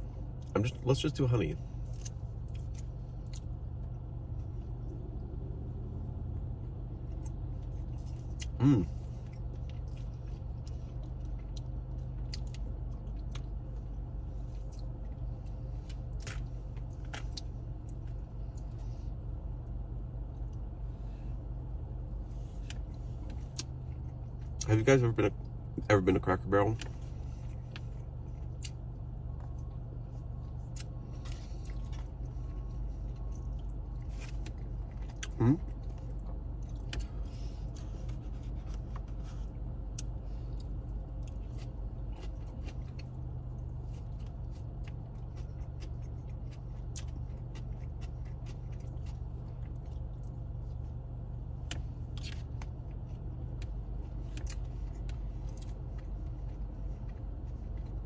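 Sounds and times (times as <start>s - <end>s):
car cabin hum: 0.0s - 58.0s
close-up chewing: 1.6s - 20.8s, 21.8s - 24.7s, 26.7s - 58.0s.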